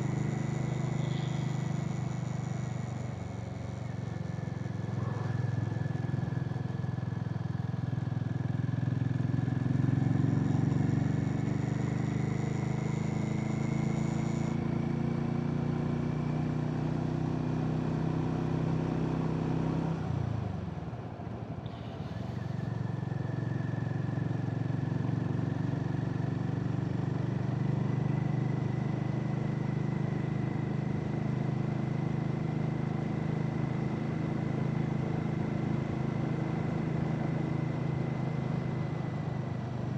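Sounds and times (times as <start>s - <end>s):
motorcycle engine cruising: 0.0s - 21.0s, 21.7s - 39.9s.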